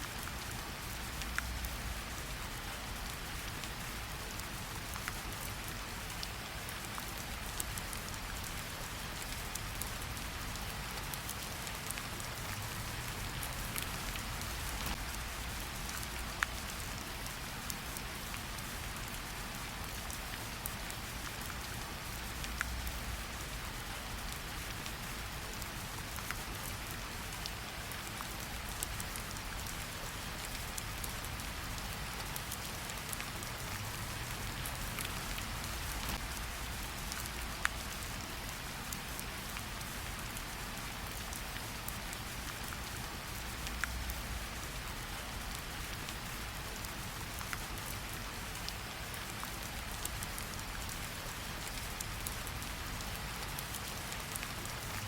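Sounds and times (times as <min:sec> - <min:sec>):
rain pattering on leaves: 0:00.0 - 0:55.0.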